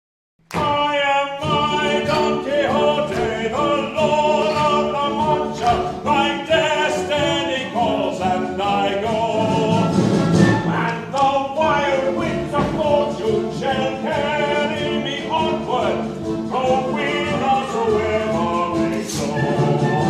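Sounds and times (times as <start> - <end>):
voices singing: 0.5 - 20.0
instrumental accompaniment: 0.6 - 20.0.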